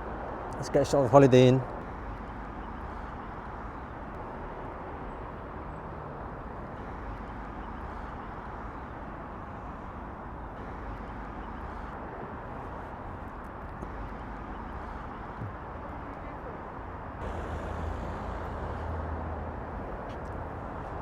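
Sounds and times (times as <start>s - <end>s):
distant road traffic rumble: 0.0s - 21.0s.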